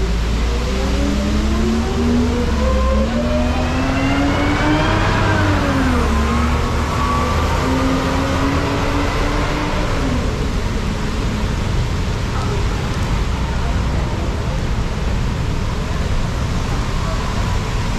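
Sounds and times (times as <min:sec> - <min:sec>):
rain: 0:00.0 - 0:17.9
tyres hissing on wet road: 0:00.0 - 0:17.9
vehicle engine: 0:00.0 - 0:17.9.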